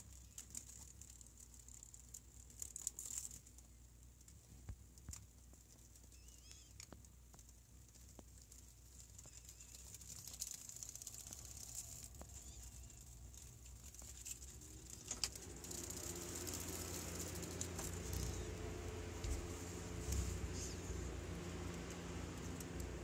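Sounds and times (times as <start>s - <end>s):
light pattering and crackling: 0.0s - 23.0s
rustling with low rumble: 0.0s - 23.0s.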